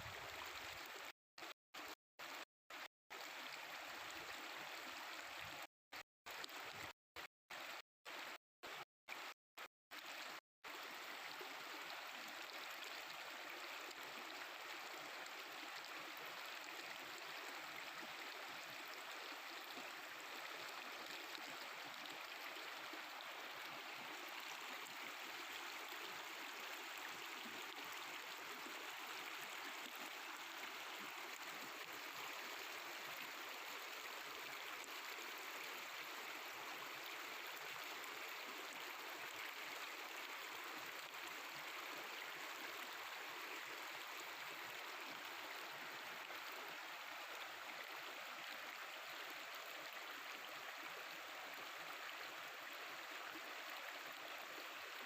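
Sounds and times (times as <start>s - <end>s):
river water babbling: 0.0s - 5.6s, 6.3s - 6.9s, 10.0s - 55.0s.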